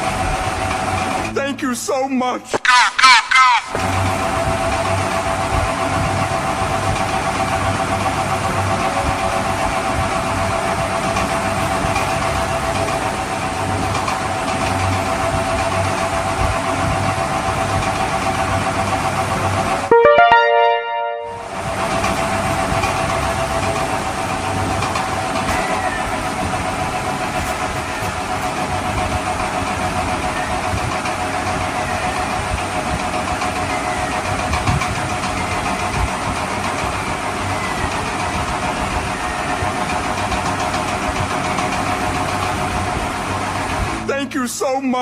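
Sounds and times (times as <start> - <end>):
engine running with constant hum: 3.8 - 19.9, 21.5 - 44.1.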